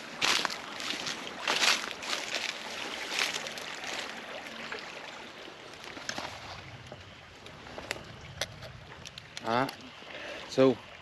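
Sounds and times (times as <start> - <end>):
creek running: 0.0 - 11.0.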